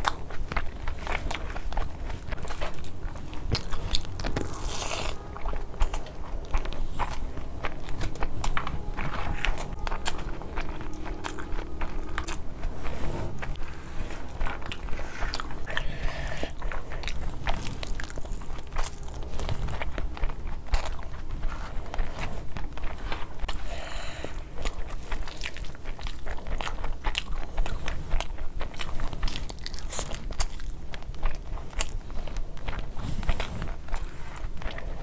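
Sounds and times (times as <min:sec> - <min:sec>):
wet chewing clicks and smacks: 0:00.0 - 0:08.7, 0:14.2 - 0:35.0
food crunching: 0:00.0 - 0:35.0.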